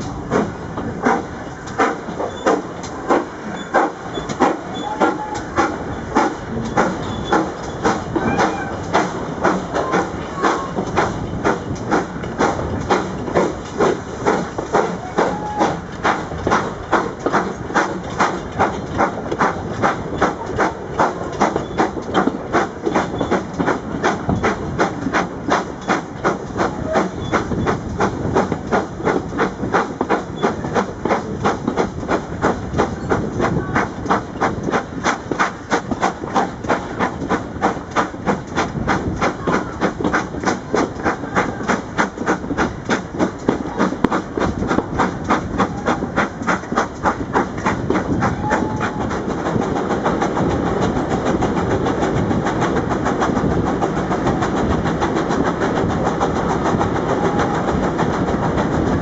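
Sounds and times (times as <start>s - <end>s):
steam locomotive chuffing: 0.0s - 59.0s
train roaring in tunnel: 0.0s - 59.0s.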